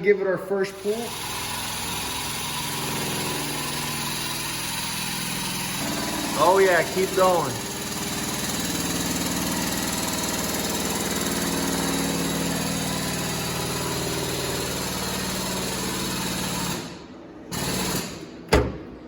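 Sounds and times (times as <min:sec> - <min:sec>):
hydraulic pump running under load: 0:00.6 - 0:19.0.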